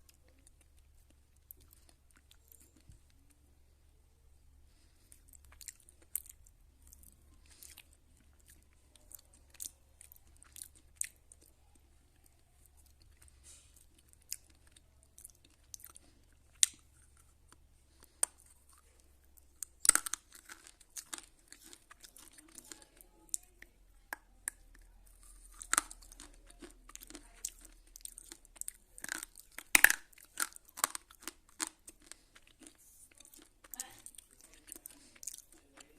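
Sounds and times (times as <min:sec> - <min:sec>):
chewing brittle crunches: 0:00.0 - 0:03.3, 0:04.7 - 0:35.9.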